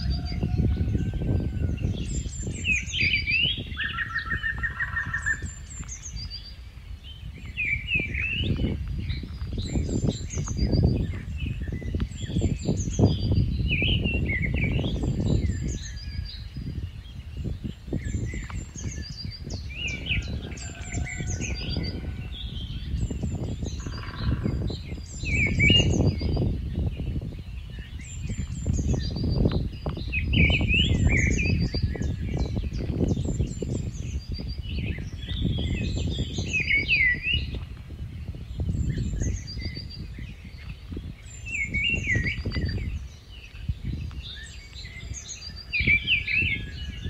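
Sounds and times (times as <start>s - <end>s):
birds chirping: 0.0s - 47.0s
wind rumble on microphone: 0.0s - 47.0s.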